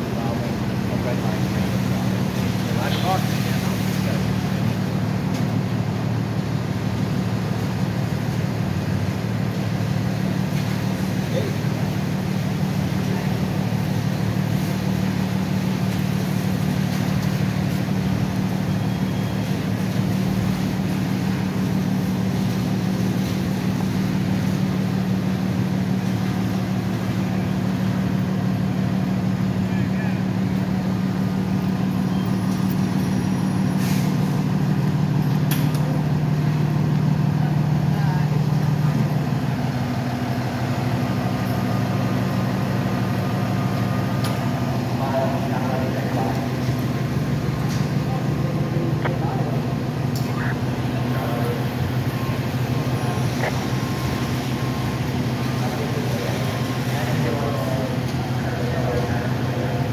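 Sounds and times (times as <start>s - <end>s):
large vehicle engine idling: 0.0s - 59.9s
street traffic: 0.0s - 59.9s.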